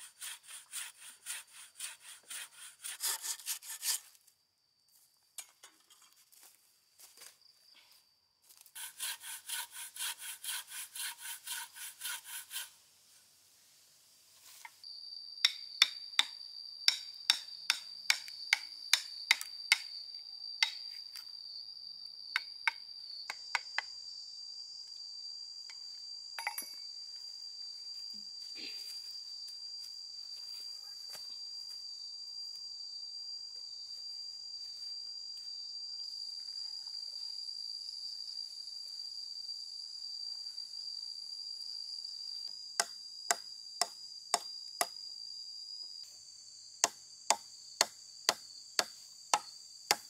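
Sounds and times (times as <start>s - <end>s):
high insect drone: 0.0s - 5.4s, 6.3s - 50.0s.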